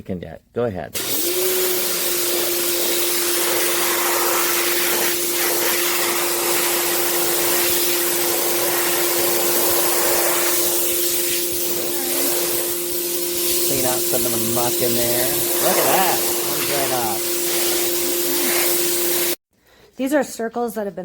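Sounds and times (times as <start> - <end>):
high-pressure water jet hissing: 1.0 - 19.4
pressure washer motor hum: 1.0 - 19.4.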